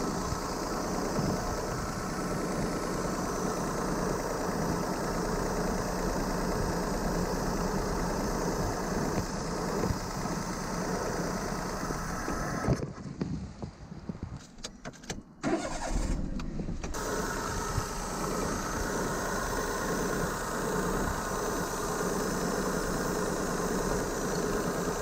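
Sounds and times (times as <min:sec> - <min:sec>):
car engine idling roughly: 0:00.0 - 0:12.7, 0:15.5 - 0:25.0.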